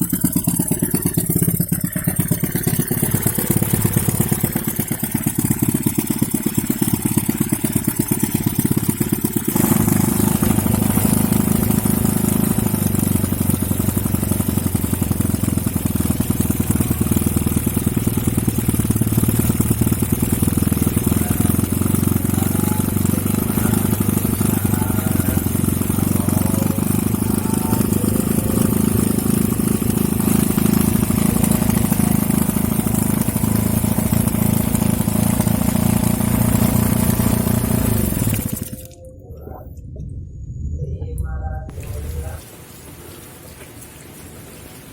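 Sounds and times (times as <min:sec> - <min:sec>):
small engine running: 0:00.0 - 0:39.2.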